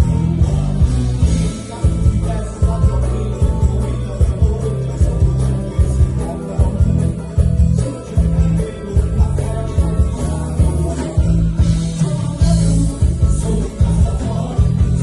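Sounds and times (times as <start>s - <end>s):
guitar: 0.0s - 15.0s
heavy bass beat: 0.0s - 15.0s
live band music through pa: 0.0s - 15.0s
voices singing: 0.0s - 15.0s.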